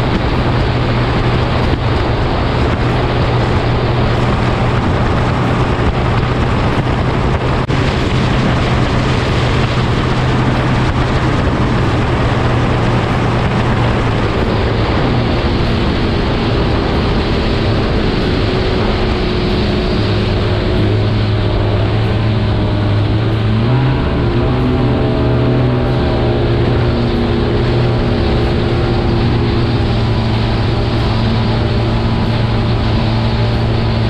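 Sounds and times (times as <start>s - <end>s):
engine droning: 0.0s - 34.0s
wind noise on microphone: 0.0s - 34.0s.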